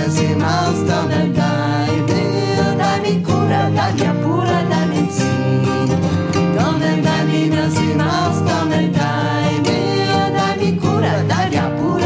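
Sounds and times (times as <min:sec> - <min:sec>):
acoustic guitar: 0:00.0 - 0:12.0
person singing: 0:00.0 - 0:12.0.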